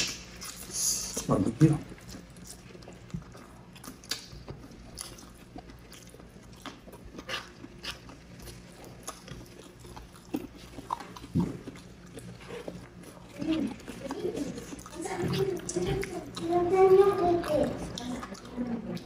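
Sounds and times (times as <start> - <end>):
low steady hum: 0.0 - 19.0
people chewing meat: 0.0 - 19.0.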